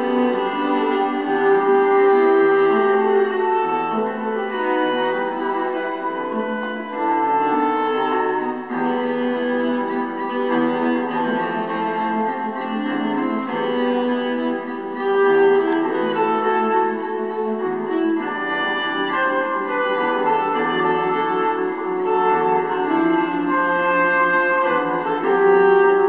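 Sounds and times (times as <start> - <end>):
bowed strings playing long notes: 0.0 - 26.0.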